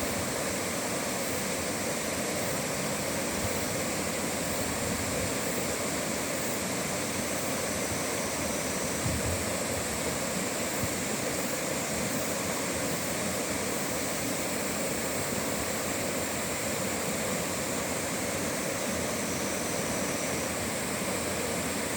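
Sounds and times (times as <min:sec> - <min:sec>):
stream rushing over rocks: 0:00.0 - 0:21.9.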